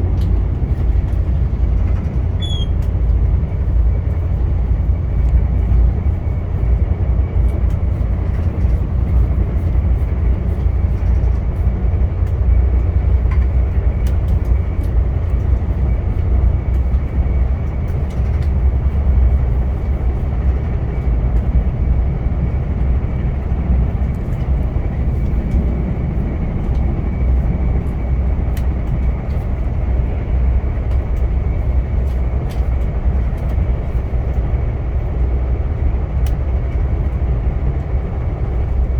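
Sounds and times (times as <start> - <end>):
passenger train rumbling on tracks: 0.0 - 38.9.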